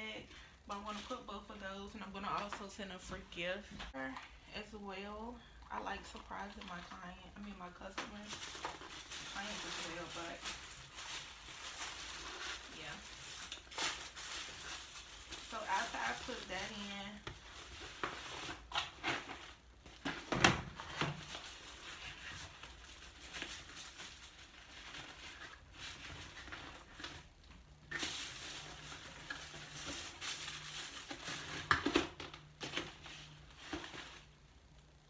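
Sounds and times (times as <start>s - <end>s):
packing materials rustling: 0.7s - 1.6s, 5.8s - 34.4s.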